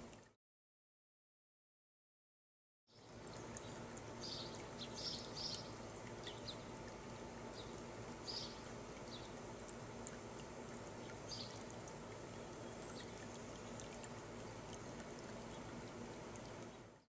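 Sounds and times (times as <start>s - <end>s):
fountain splashing and trickling: 2.9s - 17.0s.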